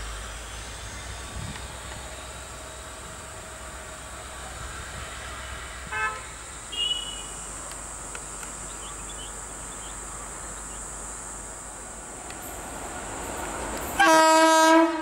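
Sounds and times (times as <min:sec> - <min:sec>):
steady high hiss: 0:00.0 - 0:14.5.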